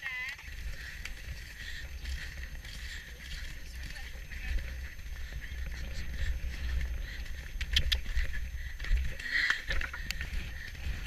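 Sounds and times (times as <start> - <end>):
wind rumbling on microphone: 0.3 - 11.0.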